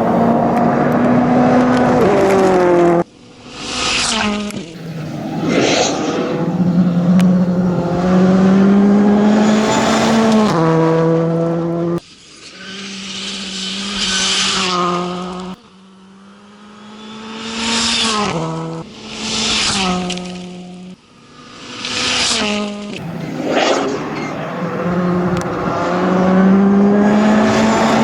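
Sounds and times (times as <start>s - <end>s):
rally cars accelerating past: 0.0s - 12.0s, 12.6s - 28.0s.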